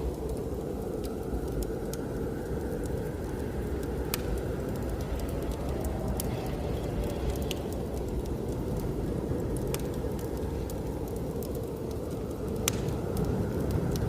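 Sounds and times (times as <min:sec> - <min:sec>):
blizzard wind rushing: 0:00.0 - 0:14.0
wood fire crackling: 0:00.0 - 0:14.0.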